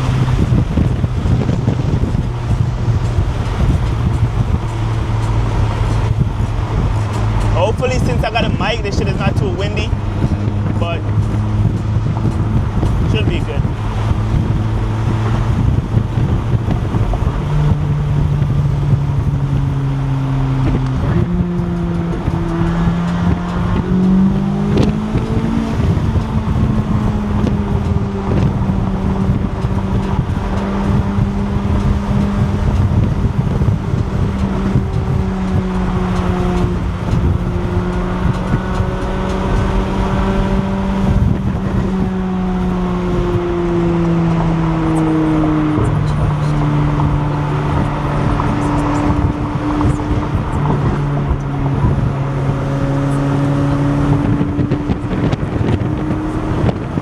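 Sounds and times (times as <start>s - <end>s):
car engine accelerating: 0.0s - 57.0s
wind and road noise: 0.0s - 57.0s.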